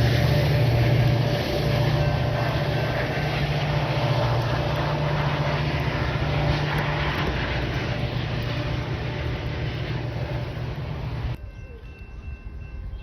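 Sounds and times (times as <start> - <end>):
train engine drone: 0.0 - 13.0
train wheel and rail noise: 0.0 - 13.0.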